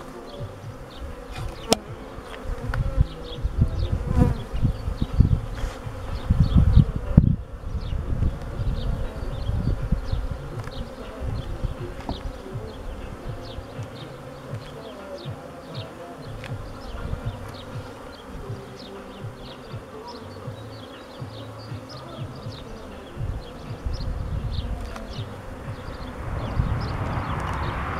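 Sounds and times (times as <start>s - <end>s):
bees buzzing: 0.0s - 27.9s
low rumbling bumps: 0.4s - 27.9s.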